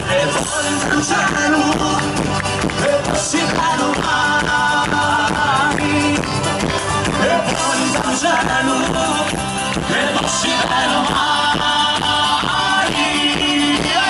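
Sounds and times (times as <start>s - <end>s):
folk band playing fast dance: 0.0s - 14.0s.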